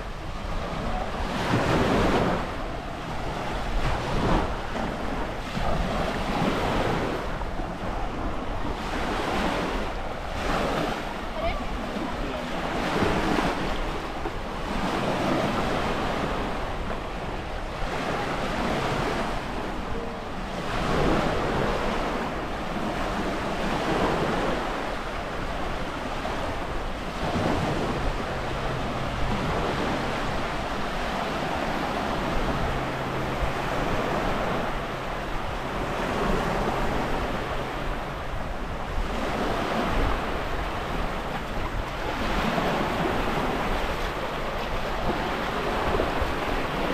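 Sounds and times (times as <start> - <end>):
sea waves washing on shore: 0.0 - 46.9
wind buffeting microphone: 0.0 - 46.9.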